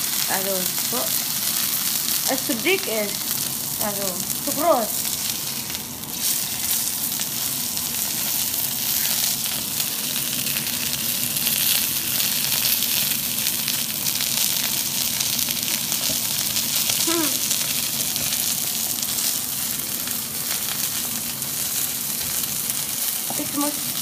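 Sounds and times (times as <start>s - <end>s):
steak sizzling in a frying pan: 0.0s - 24.0s.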